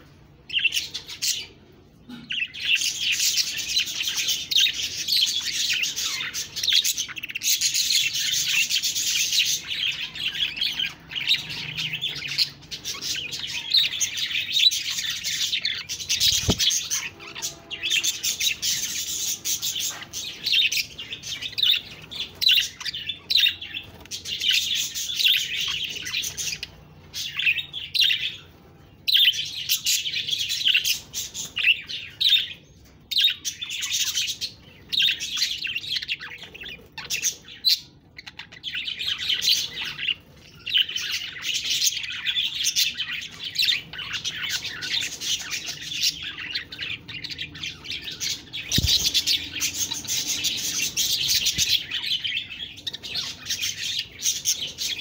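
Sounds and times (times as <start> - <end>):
budgerigars chattering: 2.1 - 28.4, 33.2 - 55.0.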